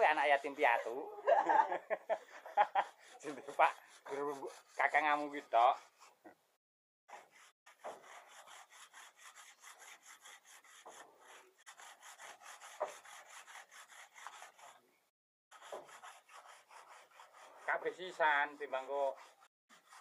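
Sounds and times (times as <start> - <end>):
hand saw rasping through block: 0.0 - 1.0, 1.6 - 6.2, 7.1 - 14.8, 15.5 - 20.0.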